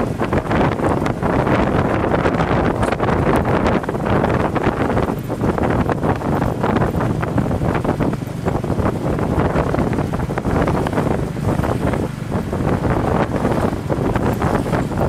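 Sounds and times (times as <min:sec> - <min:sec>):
vehicle road rumble: 0:00.0 - 0:15.0
wind buffeting the microphone: 0:00.0 - 0:15.0.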